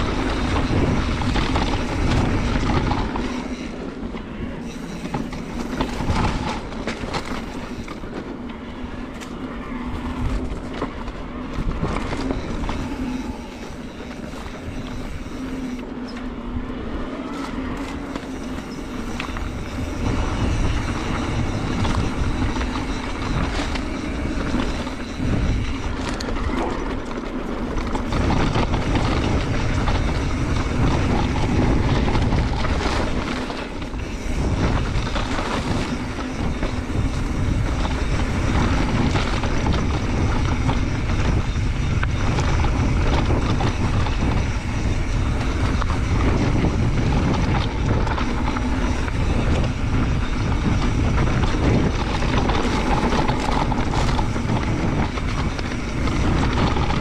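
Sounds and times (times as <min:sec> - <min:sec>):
bike clicking and rattling: 0:00.0 - 0:57.0
bike tyres on dirt trail: 0:00.0 - 0:57.0
wind rumble on microphone: 0:00.0 - 0:57.0.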